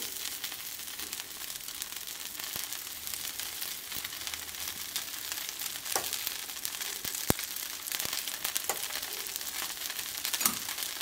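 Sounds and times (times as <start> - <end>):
oil sizzling and popping: 0.0 - 11.0.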